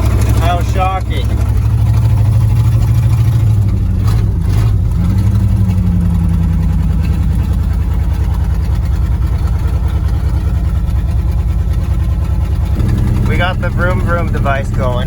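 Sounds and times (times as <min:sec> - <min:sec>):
pickup truck engine idling: 0:00.0 - 0:15.0.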